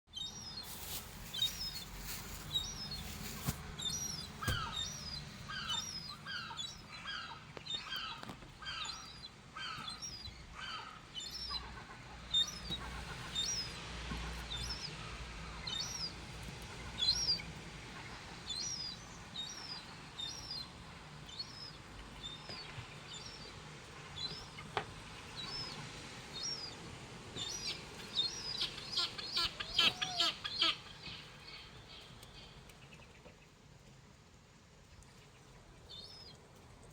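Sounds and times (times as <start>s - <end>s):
birds chirping: 0.1s - 33.5s.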